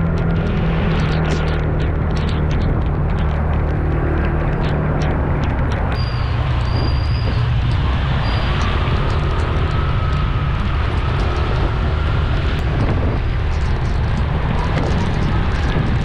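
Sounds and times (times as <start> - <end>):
wind and rain rushing: 0.0 - 16.0
wind buffeting microphone: 0.0 - 16.0.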